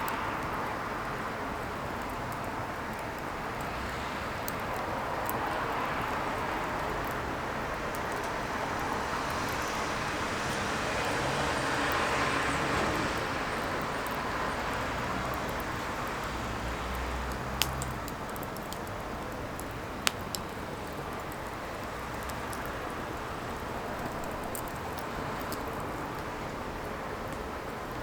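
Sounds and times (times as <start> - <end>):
firewood burning with crackles: 0.0 - 28.0
fire popping: 0.4 - 28.0.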